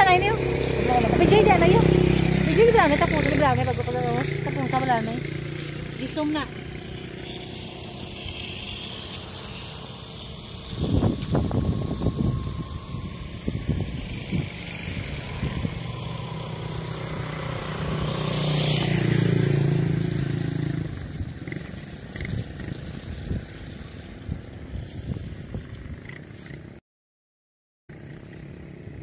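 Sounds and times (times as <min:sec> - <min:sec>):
vehicle engine driving past: 0:00.0 - 0:26.1.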